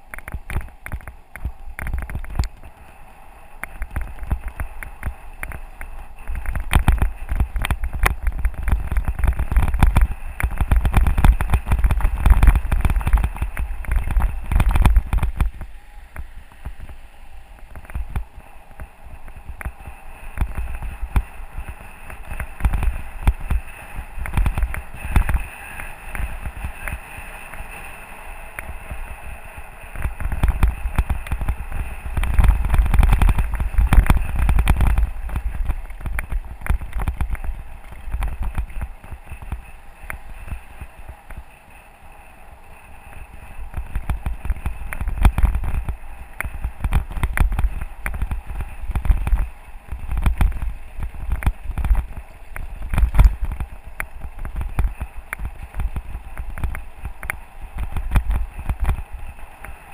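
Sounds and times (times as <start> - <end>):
bike rattling on gravel: 0.0 - 59.9
wind rumbling on microphone: 0.0 - 59.9.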